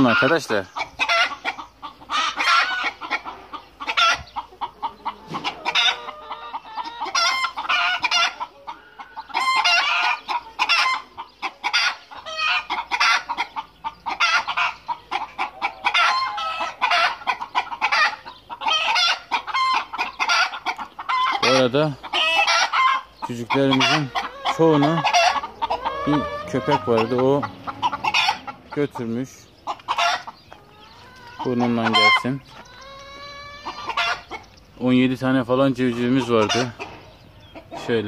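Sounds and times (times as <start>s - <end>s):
hens clucking and squawking: 0.0s - 38.0s.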